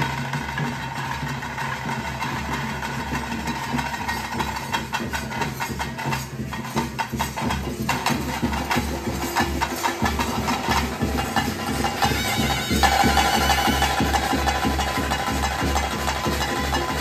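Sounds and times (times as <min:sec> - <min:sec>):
drums beaten quickly: 0:00.0 - 0:17.0.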